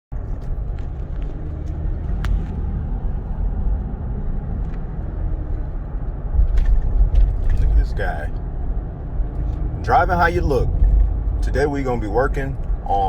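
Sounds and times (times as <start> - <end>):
car cabin rumble: 0.1 - 13.0.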